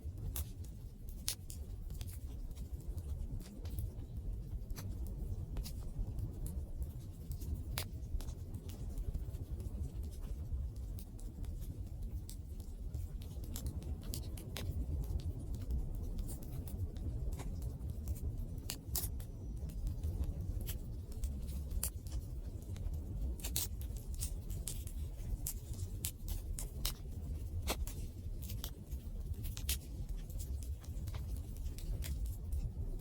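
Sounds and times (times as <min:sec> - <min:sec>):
low rumble of burning: 0:00.0 - 0:33.0
campfire crackling and popping: 0:00.1 - 0:33.0.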